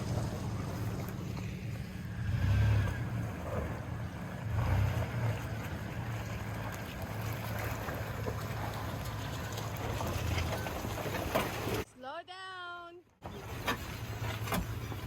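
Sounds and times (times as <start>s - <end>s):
off-road vehicle engine rumbling: 0.0s - 11.9s, 13.2s - 15.0s.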